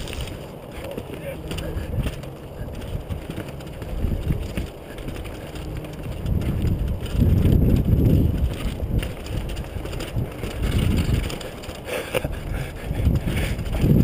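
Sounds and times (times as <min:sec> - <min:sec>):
mountain bike rattling over rocks: 0:00.0 - 0:14.0
wind buffeting microphone: 0:00.0 - 0:14.0.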